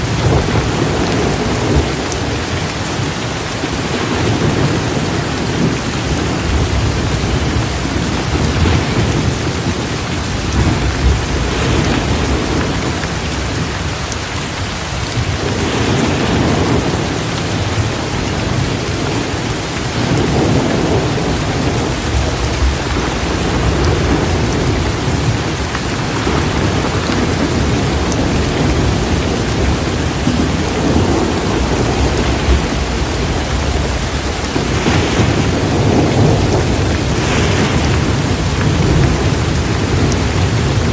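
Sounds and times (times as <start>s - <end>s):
heavy rain pouring: 0.0s - 40.9s
thunder rumbling: 0.0s - 40.9s.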